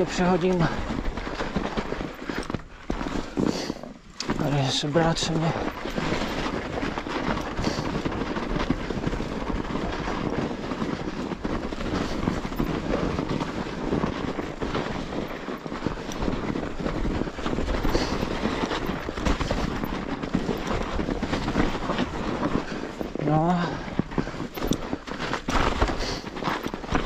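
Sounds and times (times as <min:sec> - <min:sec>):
bike rattling: 0:00.0 - 0:27.0
bike tyre noise on snow: 0:00.0 - 0:27.0.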